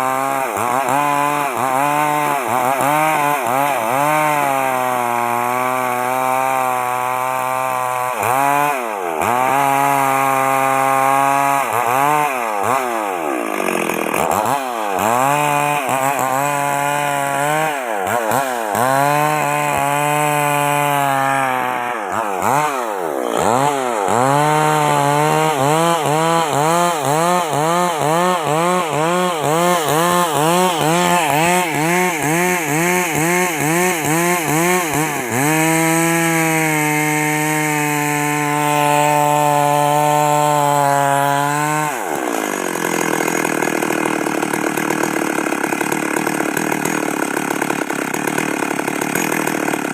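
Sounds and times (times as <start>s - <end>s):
chainsaw cutting through log: 0.0s - 49.9s.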